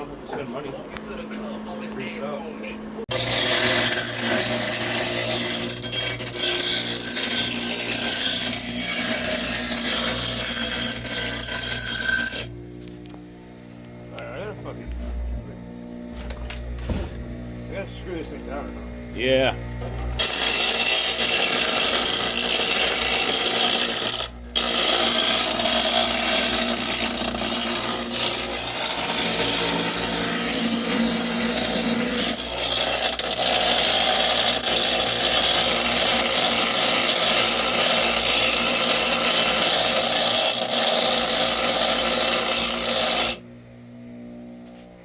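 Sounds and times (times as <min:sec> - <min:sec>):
power tool running under load: 0:03.0 - 0:43.5.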